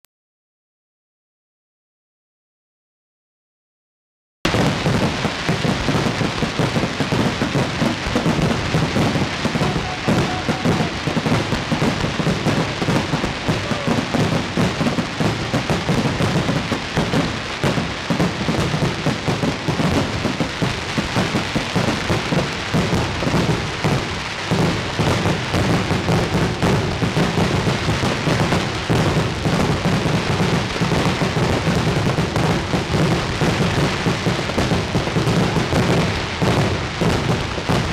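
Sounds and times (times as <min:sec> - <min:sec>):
fireworks crackling and bursting: 0:04.5 - 0:37.9.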